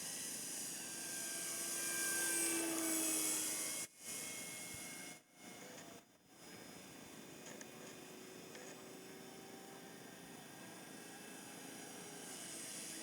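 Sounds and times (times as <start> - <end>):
model plane electric motor whine: 0.0 - 13.0.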